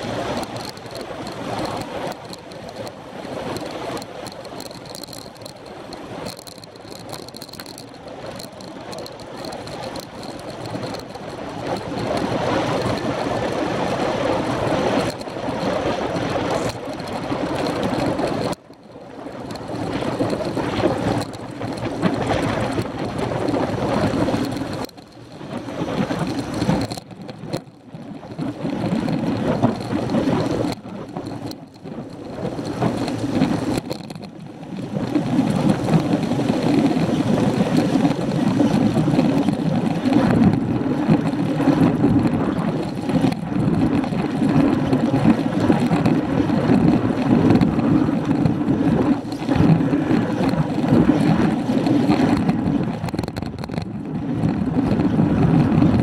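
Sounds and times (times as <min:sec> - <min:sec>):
road noise from tarmac: 0:00.0 - 0:56.0
wind rushing over microphone: 0:00.0 - 0:56.0.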